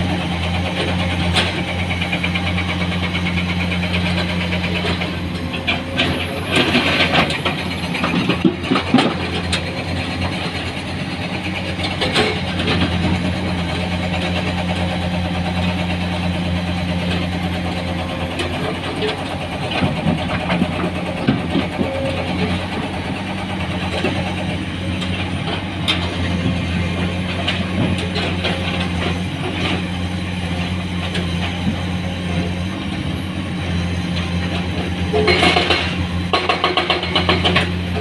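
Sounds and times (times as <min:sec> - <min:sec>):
diesel engine running: 0:00.0 - 0:38.0
engine clattering: 0:00.0 - 0:38.0.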